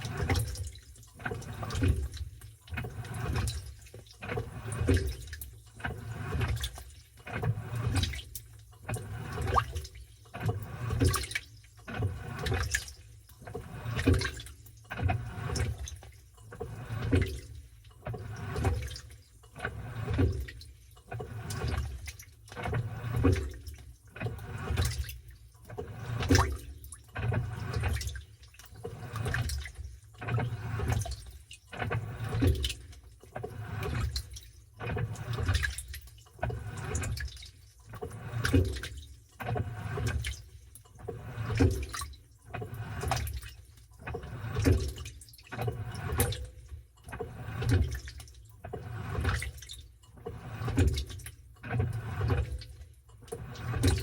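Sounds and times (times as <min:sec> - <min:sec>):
washing machine sloshing: 0:00.0 - 0:54.0.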